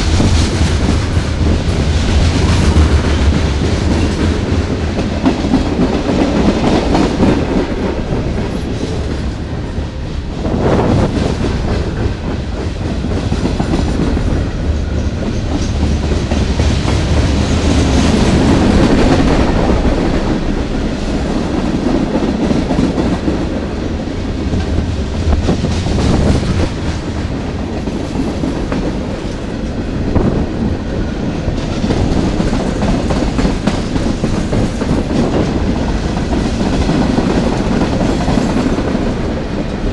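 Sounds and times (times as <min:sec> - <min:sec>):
freight train rumbling past: 0:00.0 - 0:39.9
train wheel clatter: 0:00.0 - 0:39.9.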